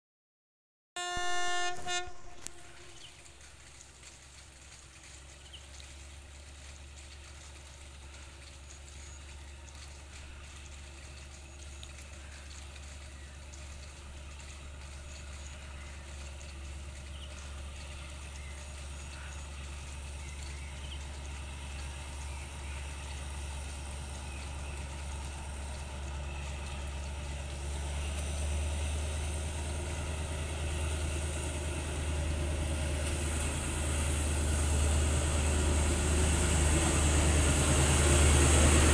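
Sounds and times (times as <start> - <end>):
diesel locomotive engine rumble: 1.0 - 38.9.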